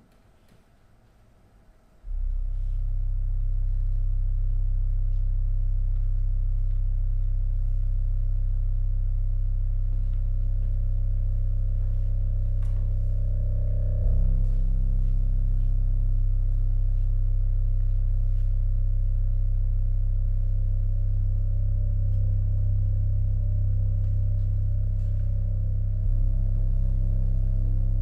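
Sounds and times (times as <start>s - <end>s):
deep steady drone: 1.9s - 28.0s.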